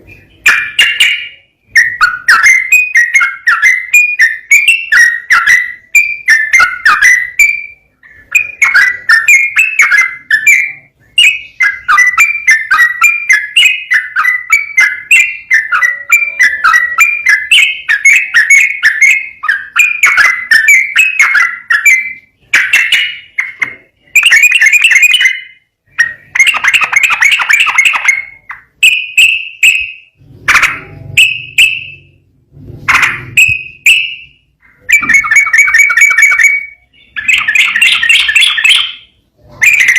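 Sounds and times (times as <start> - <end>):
bulbul bubbling song: 0.0 - 32.2.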